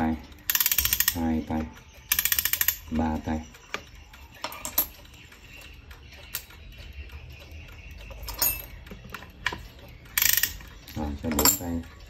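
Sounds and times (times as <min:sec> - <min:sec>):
clock winding ratchet clicks: 0:00.0 - 0:12.0.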